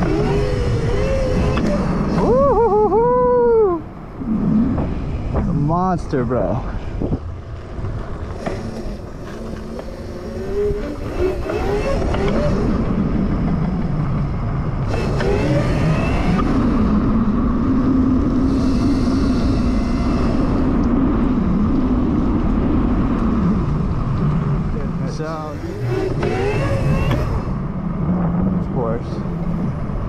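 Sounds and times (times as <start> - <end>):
electric motor whine: 0.0 - 2.8, 8.2 - 30.0
road and wind rush: 0.0 - 30.0.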